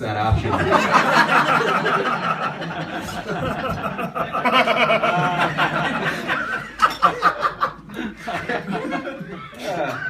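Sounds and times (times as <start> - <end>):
small audience laughing: 0.4 - 10.0.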